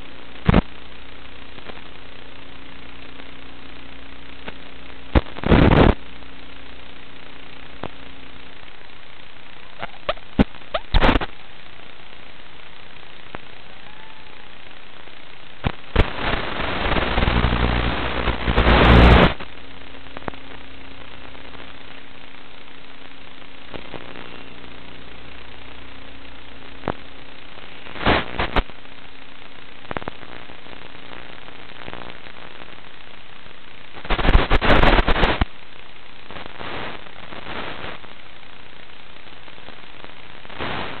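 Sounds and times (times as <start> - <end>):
crackling static with low buzz: 0.0 - 41.0
steady hiss with faint hum: 0.0 - 41.0.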